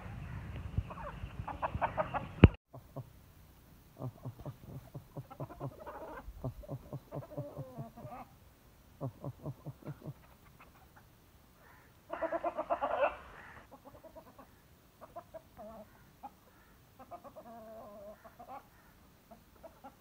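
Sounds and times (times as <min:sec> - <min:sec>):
chickens clucking: 0:00.0 - 0:03.2, 0:04.0 - 0:08.4, 0:09.0 - 0:20.0.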